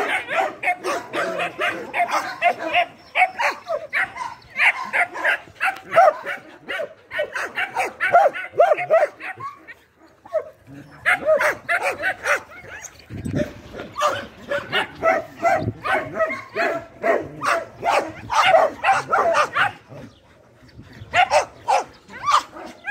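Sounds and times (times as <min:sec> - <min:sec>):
dogs barking and yelping: 0:00.0 - 0:22.9.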